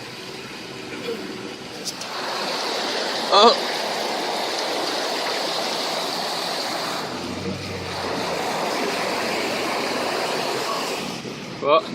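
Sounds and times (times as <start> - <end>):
water spraying around car: 0.0 - 11.9.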